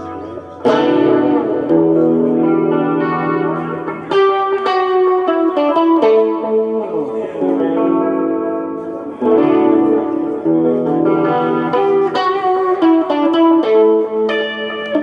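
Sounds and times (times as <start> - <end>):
electric guitar melody: 0.0 - 15.0.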